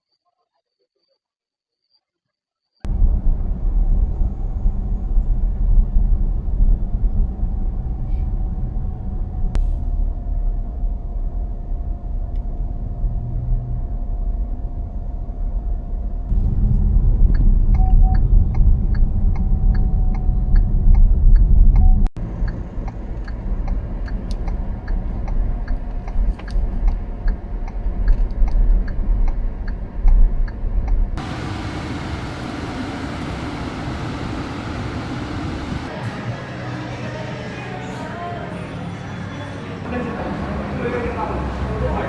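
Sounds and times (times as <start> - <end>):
car road rumble: 2.9 - 37.3.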